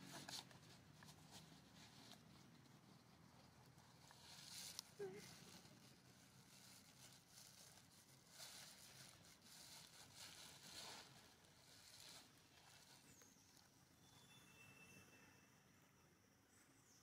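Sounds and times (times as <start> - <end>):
soft rustling: 0.0 - 14.1.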